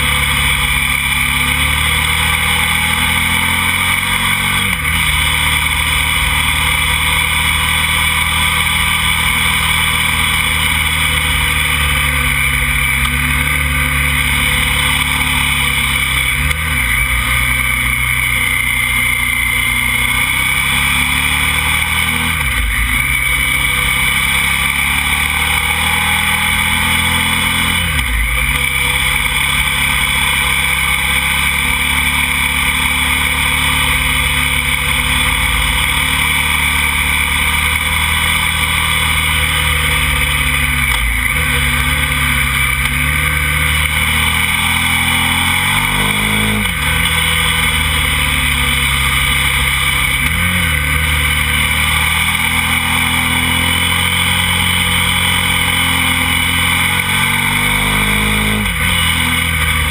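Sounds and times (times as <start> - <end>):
motorcycle engine under load: 0.0 - 59.9
wind and road noise: 0.0 - 59.9.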